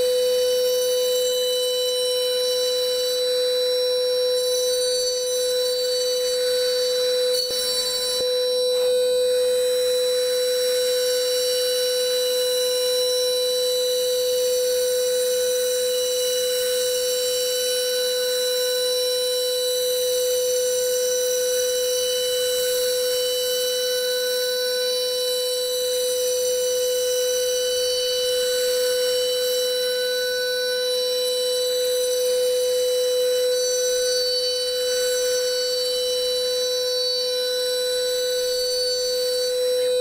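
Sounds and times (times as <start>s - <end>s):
milling spindle whine: 0.0s - 40.0s.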